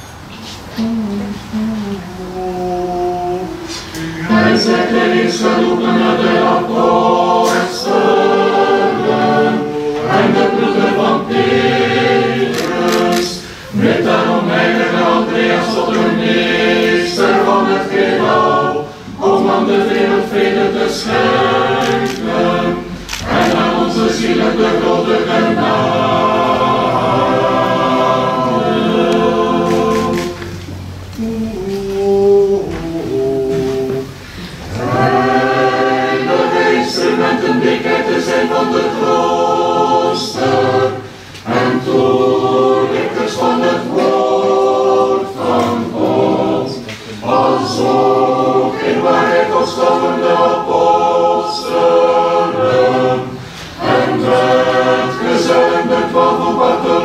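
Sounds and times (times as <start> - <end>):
choir singing a cappella hymn: 0.0 - 57.0.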